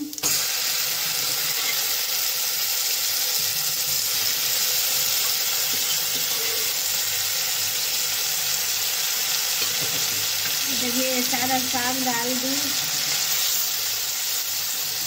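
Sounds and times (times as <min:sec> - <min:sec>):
greens sizzling in hot oil: 0:00.0 - 0:15.0.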